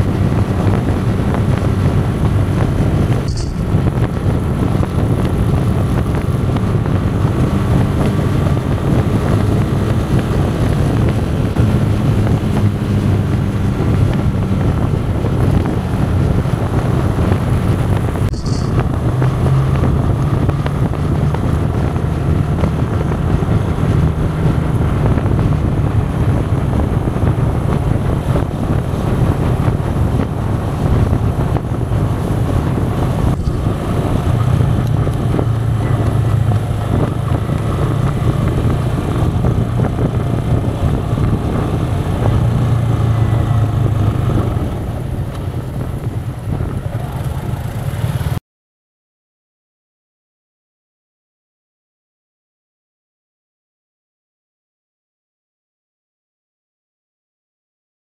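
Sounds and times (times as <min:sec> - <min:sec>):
motorcycle engine running: 0:00.0 - 0:48.4
wind buffeting microphone: 0:00.0 - 0:48.4.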